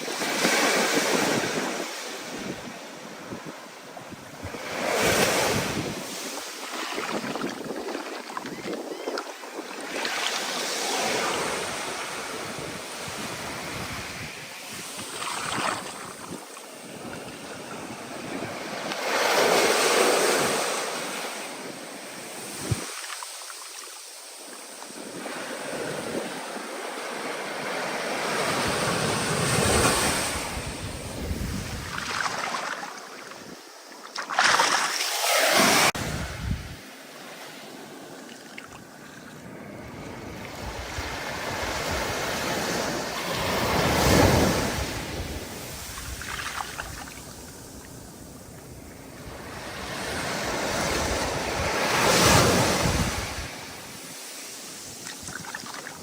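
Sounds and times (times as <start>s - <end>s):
wind: 0.0s - 56.0s
waves breaking: 4.2s - 56.0s.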